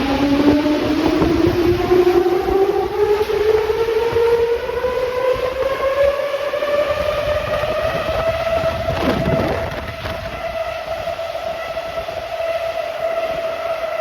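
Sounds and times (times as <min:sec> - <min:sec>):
blower whine rising in pitch: 0:00.0 - 0:14.0
strong wind rushing: 0:00.0 - 0:14.0.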